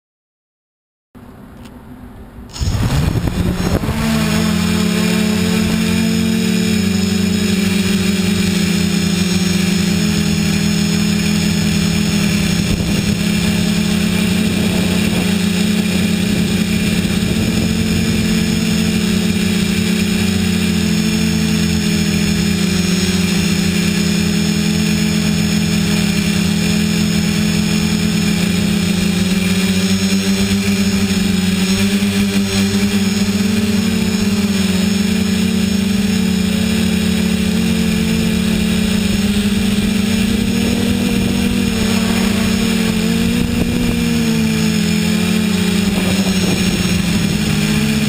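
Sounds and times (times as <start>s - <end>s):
quadcopter motors humming: 1.2s - 48.0s.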